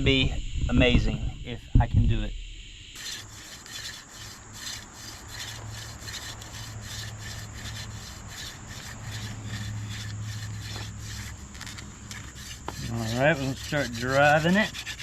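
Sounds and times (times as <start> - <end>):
wooden spindle rubbing on board: 3.0 - 15.0.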